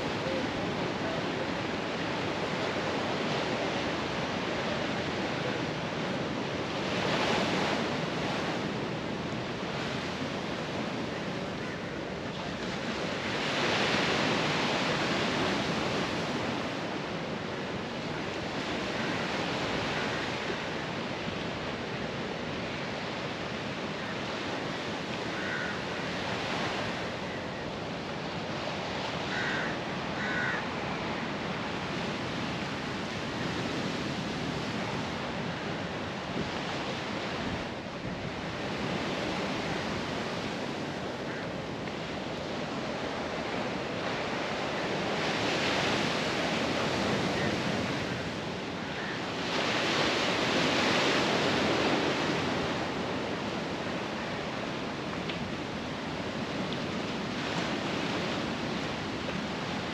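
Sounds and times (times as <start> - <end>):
surf washing over rocks: 0.0 - 59.9.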